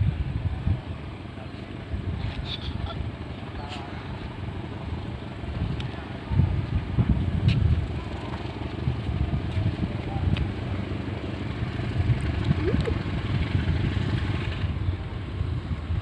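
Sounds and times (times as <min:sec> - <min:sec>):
distant diesel locomotive rumble: 0:00.0 - 0:16.0.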